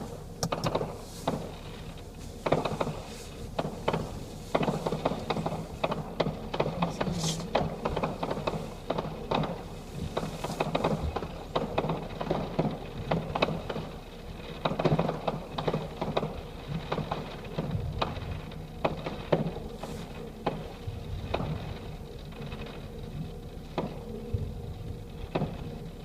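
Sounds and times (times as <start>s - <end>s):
low rumble: 0.0s - 26.0s
fireworks popping and banging: 0.4s - 22.8s.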